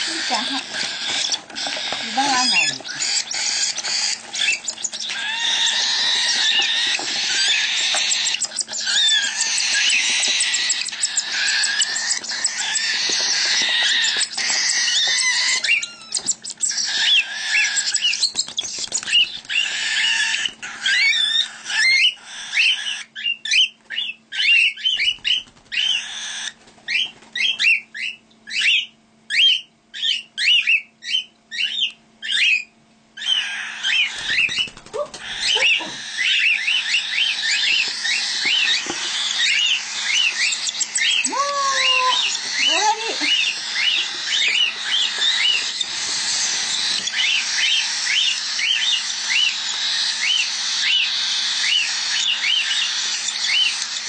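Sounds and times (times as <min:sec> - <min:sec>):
bird chicks begging calls: 0:00.0 - 0:54.0.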